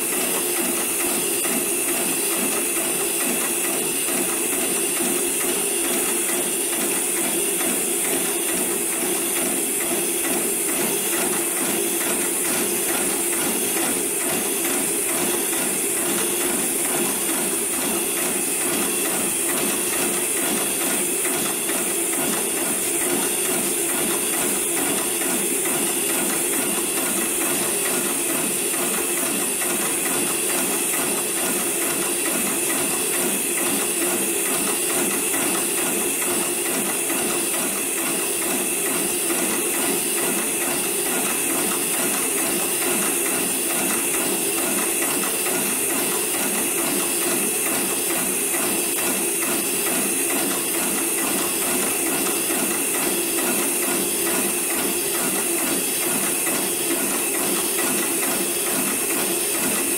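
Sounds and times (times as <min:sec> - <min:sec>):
rope-sewing machine running: 0:00.0 - 0:59.9.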